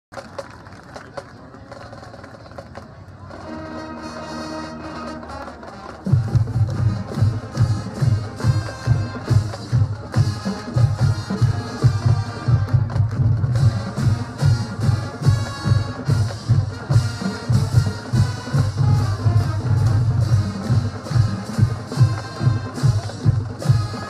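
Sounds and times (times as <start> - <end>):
marching band playing: 0.1 - 24.0
drums beating steadily: 1.0 - 24.0
held brass chord: 3.4 - 12.8, 13.6 - 24.0.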